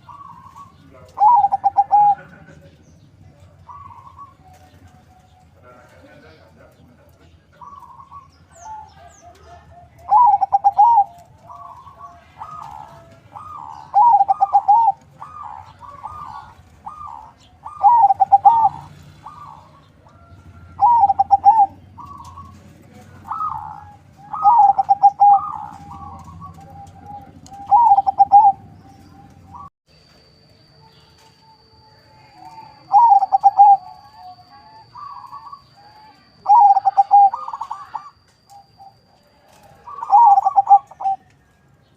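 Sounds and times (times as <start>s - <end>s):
dove cooing: 0.0s - 29.7s, 32.1s - 41.4s.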